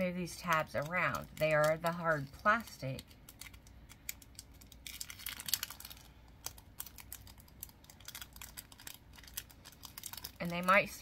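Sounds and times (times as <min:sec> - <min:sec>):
plastic packaging crinkle: 0:00.0 - 0:11.0.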